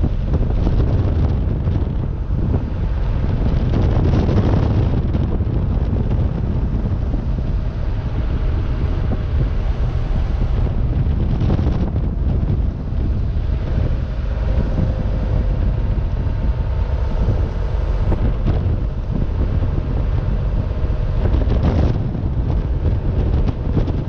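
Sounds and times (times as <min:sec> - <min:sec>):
car engine running: 0:00.0 - 0:24.0
road noise: 0:00.0 - 0:24.0
wind buffeting microphone: 0:00.0 - 0:24.0.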